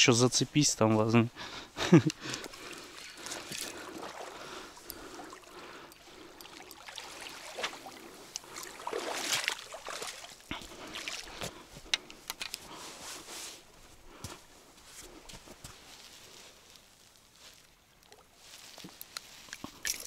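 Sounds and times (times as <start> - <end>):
water splashing and sloshing: 2.1 - 20.0.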